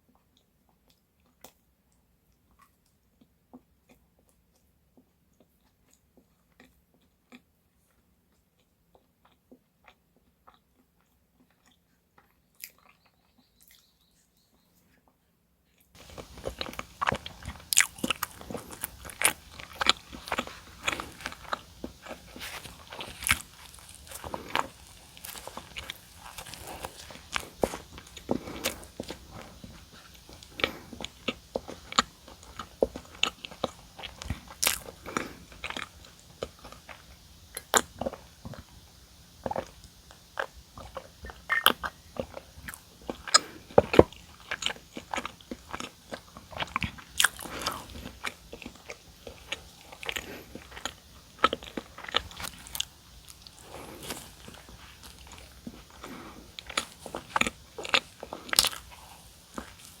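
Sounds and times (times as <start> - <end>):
eating and chewing with crunches: 0.0 - 60.0.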